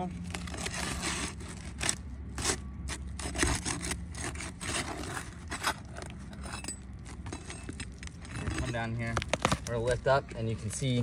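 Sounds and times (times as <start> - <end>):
pry bar scraping under shingle: 0.3 - 11.0.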